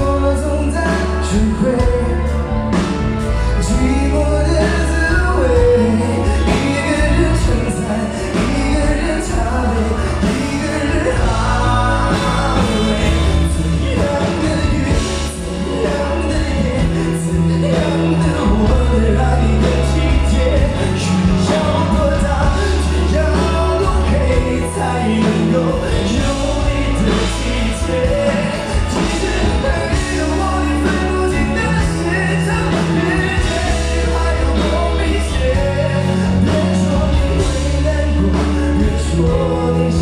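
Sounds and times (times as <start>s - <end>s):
pop song with singer and band: 0.0s - 40.0s.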